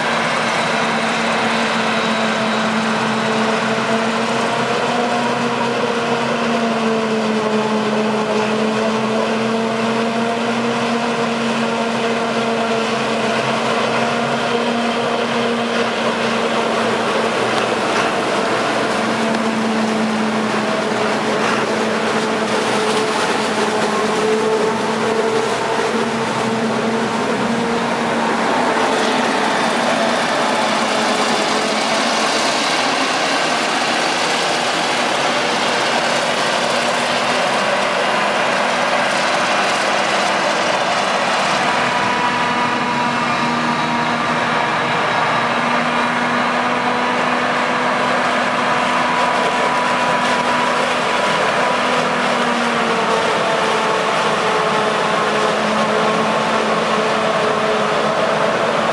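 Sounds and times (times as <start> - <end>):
forage harvester droning: 0.0 - 58.9
tractor running: 0.0 - 58.9.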